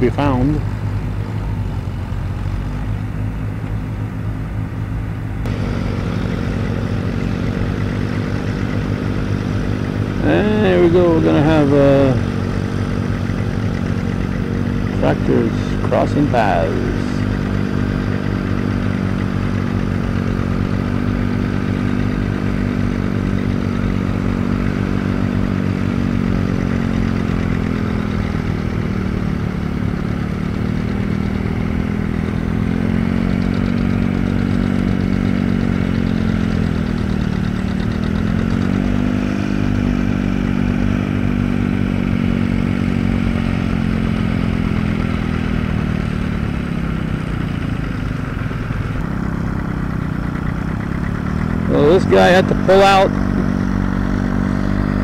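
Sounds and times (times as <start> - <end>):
tractor engines running under load: 0.0 - 55.0.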